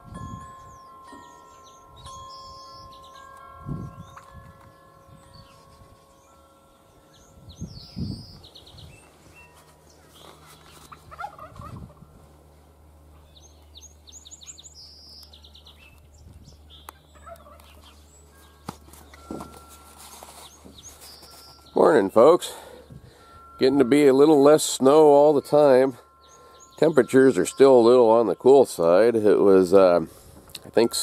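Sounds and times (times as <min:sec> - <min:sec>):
low steady hum: 0:00.0 - 0:31.0
lower bird calls: 0:00.5 - 0:12.1, 0:13.0 - 0:23.6, 0:25.5 - 0:28.2.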